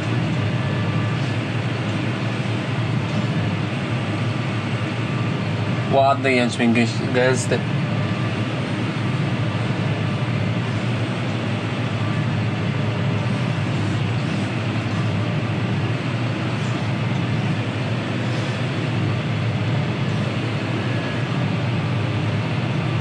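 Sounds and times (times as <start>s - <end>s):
combine harvester droning: 0.0s - 23.0s
tractor engine droning: 0.0s - 23.0s.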